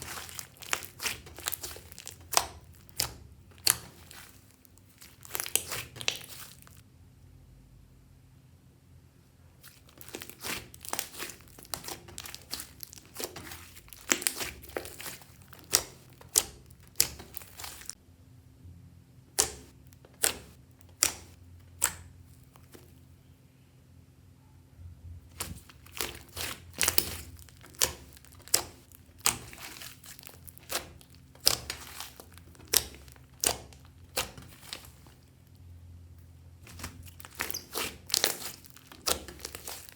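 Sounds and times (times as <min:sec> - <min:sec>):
slime squishing: 0:00.0 - 0:06.8, 0:09.6 - 0:18.0, 0:19.3 - 0:23.1, 0:25.2 - 0:39.9.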